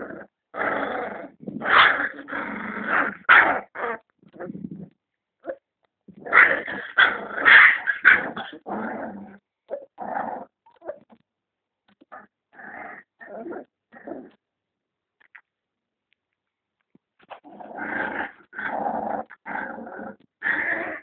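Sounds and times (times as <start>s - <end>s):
puppy growling: 0.0s - 11.0s, 12.0s - 14.4s, 17.2s - 21.0s.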